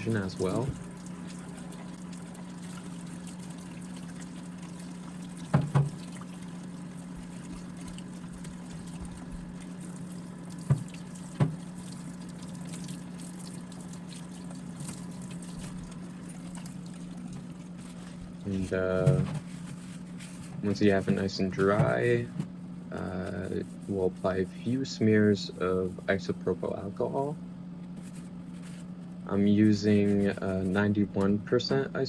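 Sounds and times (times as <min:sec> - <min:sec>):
tap water running: 0:00.0 - 0:27.3
low steady hum: 0:00.0 - 0:32.0.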